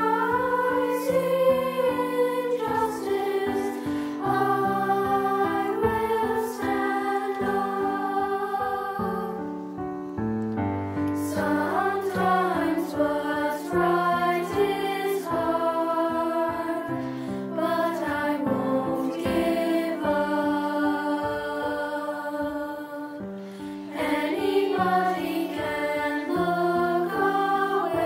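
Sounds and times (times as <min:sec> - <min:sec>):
choir of young voices singing: 0:00.0 - 0:10.1, 0:11.0 - 0:28.0.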